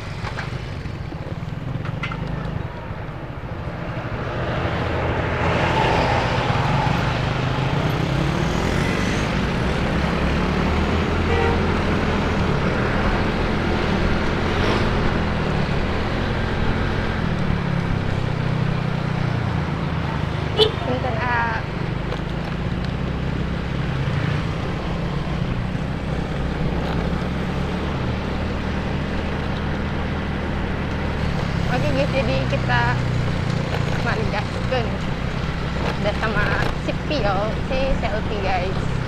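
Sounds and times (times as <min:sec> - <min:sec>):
scooter engine humming: 0:00.0 - 0:39.0
wind and road rush: 0:00.0 - 0:39.0.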